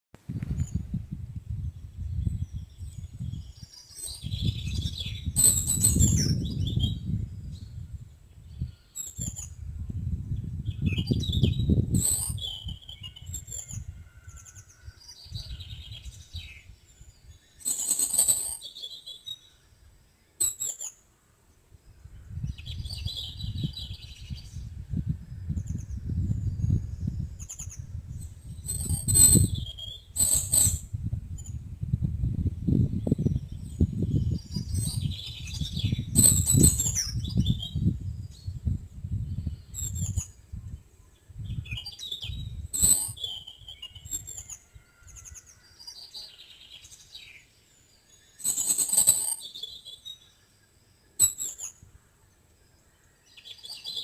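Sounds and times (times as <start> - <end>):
songbirds chirping: 0.4 - 54.0.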